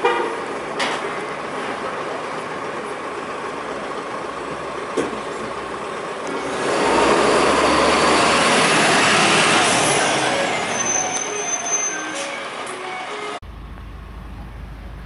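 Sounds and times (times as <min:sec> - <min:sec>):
rubbish truck engine running: 0:00.0 - 0:15.0.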